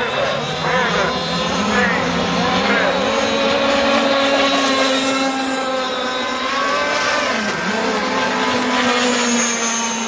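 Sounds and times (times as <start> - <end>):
racing boat engines buzzing: 0.0 - 10.0.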